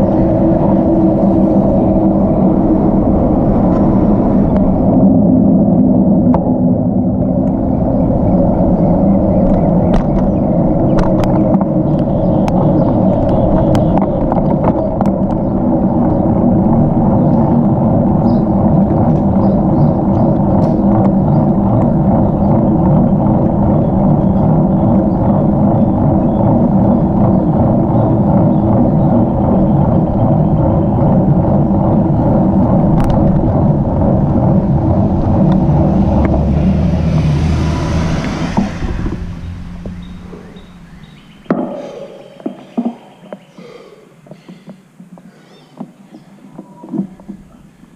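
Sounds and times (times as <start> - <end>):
wind noise: 0.0 - 43.5.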